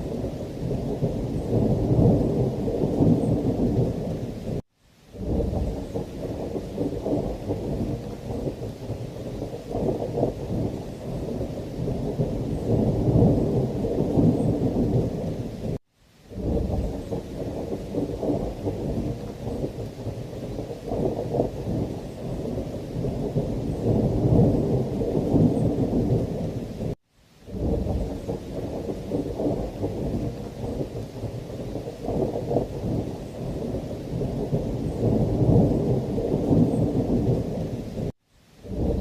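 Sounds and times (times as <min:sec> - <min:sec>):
thunder rumbling: 0:00.0 - 0:04.6, 0:05.2 - 0:39.0
heavy rain: 0:00.0 - 0:39.0.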